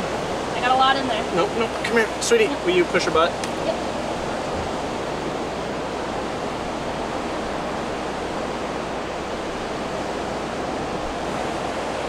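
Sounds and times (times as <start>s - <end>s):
ocean surf rushing on beach: 0.0s - 12.0s.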